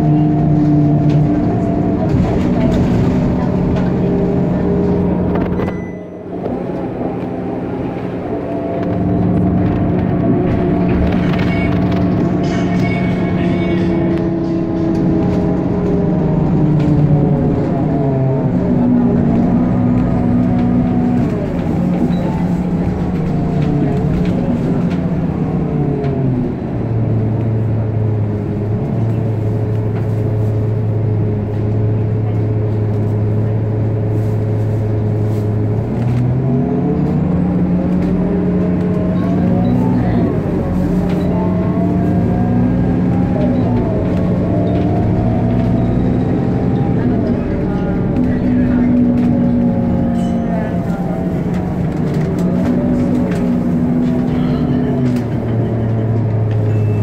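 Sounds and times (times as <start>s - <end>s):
vehicle engine hum from cabin: 0.0s - 57.0s.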